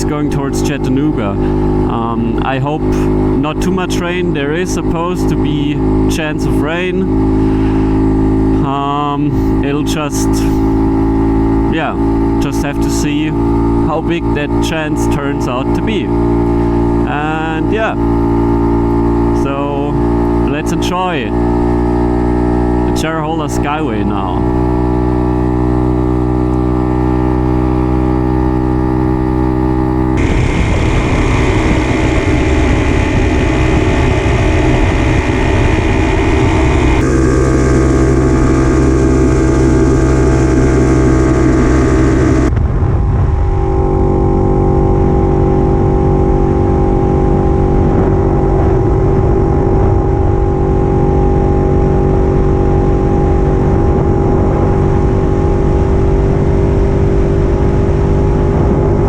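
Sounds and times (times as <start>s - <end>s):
two-stroke motorcycle engine running: 0.0s - 59.0s.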